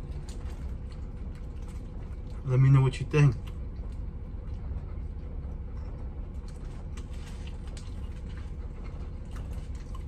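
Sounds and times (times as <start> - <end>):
person chewing food: 0.0 - 2.5, 3.3 - 10.0
low hum in vehicle cab: 0.0 - 10.0.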